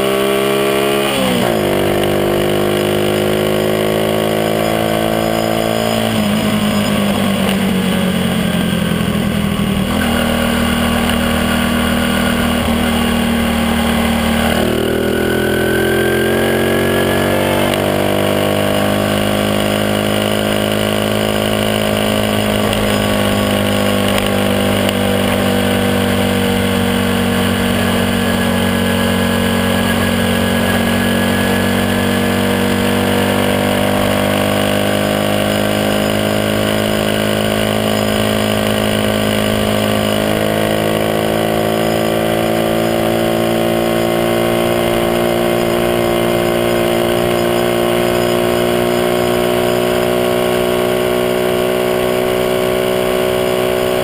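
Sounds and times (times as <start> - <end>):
small motorbike engine running: 0.0 - 54.0.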